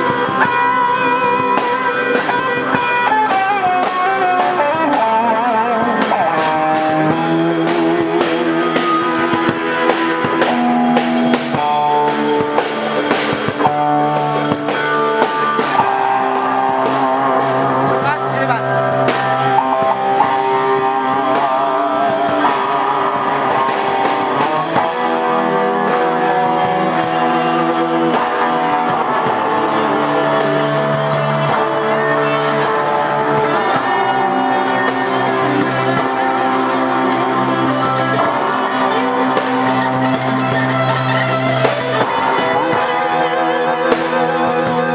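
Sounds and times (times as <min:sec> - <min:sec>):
guitar chords: 0:00.0 - 0:44.9
lead guitar with vibrato: 0:00.0 - 0:44.9
steady drum beat: 0:00.0 - 0:44.9.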